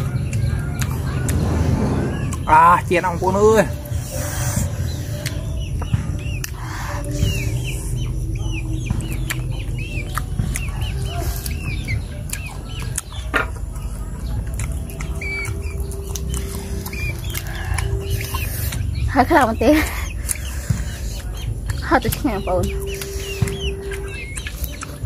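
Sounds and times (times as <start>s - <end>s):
bird chirping: 0.0s - 25.0s
steady low rumble: 0.0s - 25.0s.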